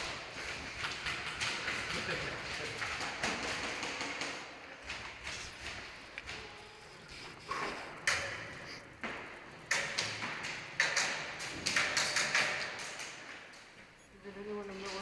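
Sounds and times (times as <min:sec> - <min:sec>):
sharp taps and knocks echoing: 0:00.0 - 0:13.7.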